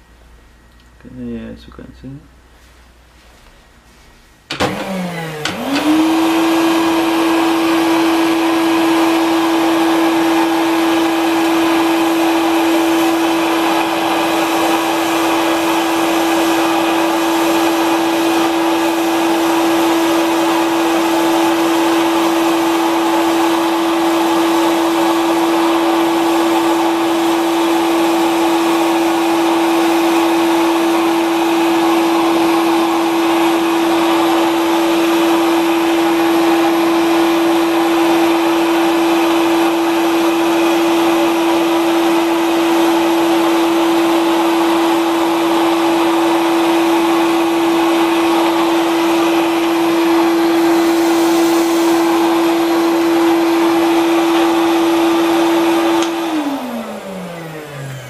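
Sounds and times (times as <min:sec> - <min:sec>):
vacuum cleaner running on carpet: 0:04.5 - 0:58.0.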